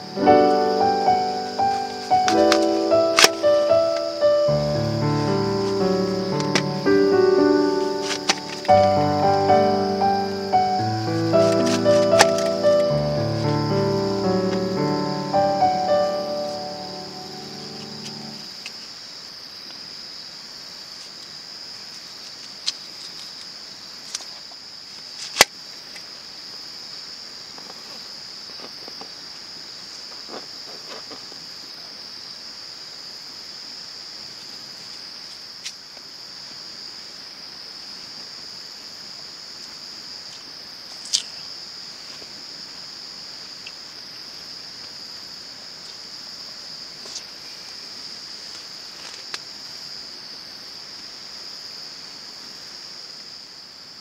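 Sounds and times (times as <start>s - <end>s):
high insect chorus chirring: 0.0s - 54.0s.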